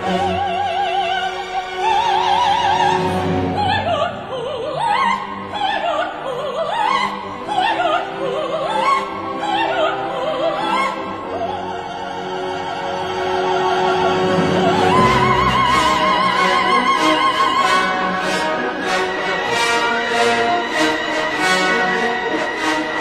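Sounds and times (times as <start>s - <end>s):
operatic singing with orchestra: 0.0s - 23.0s.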